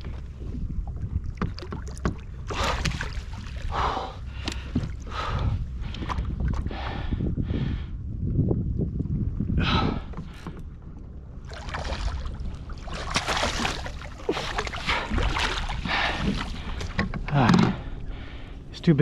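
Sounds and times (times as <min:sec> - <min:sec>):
water splashing and sloshing: 0:00.0 - 0:07.9, 0:09.0 - 0:19.0
low rumble: 0:00.0 - 0:19.0.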